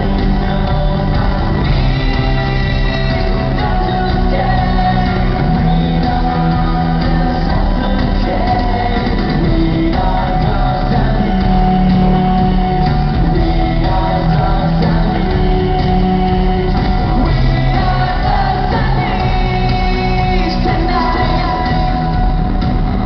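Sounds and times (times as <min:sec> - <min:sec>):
lead vocal singing: 0:00.0 - 0:23.0
live rock band playing: 0:00.0 - 0:23.0.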